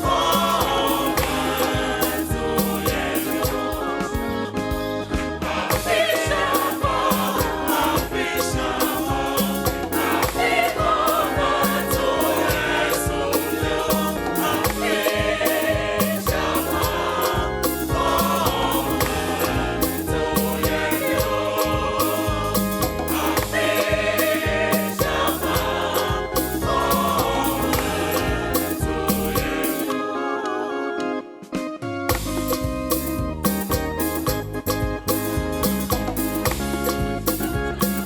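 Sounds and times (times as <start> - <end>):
band with beat and bass: 0.0 - 30.0, 31.5 - 38.0
choir singing gospel: 0.0 - 38.0.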